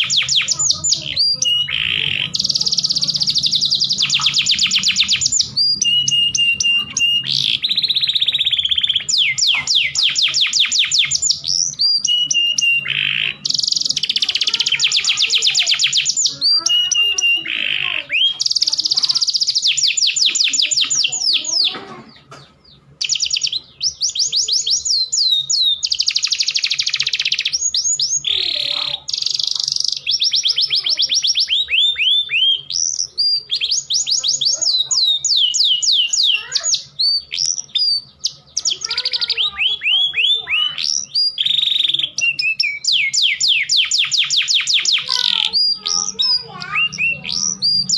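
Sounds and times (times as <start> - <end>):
canaries singing trills: 0.0 - 47.9.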